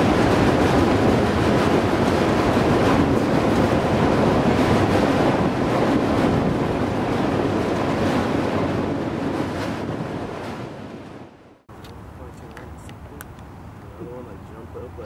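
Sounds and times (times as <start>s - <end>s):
freight train rumbling: 0.0s - 15.0s
wind buffeting microphone: 0.0s - 15.0s.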